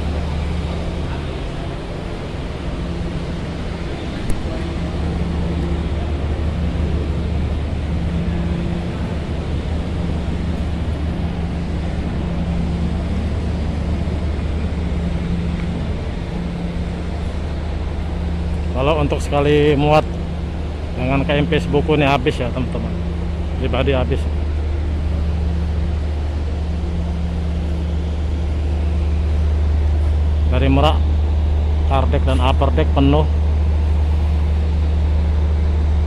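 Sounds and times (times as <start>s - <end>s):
low engine drone: 0.0s - 36.0s.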